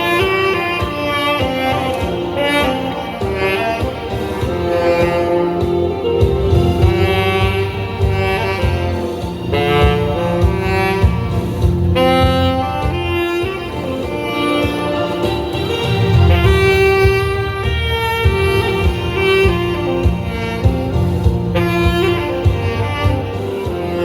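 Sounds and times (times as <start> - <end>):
backing track with bass line: 0.0 - 24.0
saxophone melody: 0.0 - 24.0.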